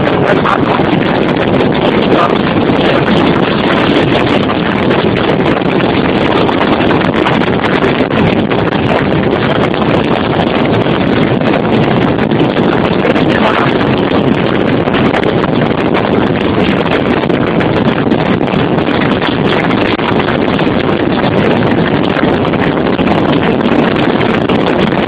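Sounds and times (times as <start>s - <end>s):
car road and wind noise: 0.0s - 25.0s
wind buffeting microphone: 0.0s - 25.0s.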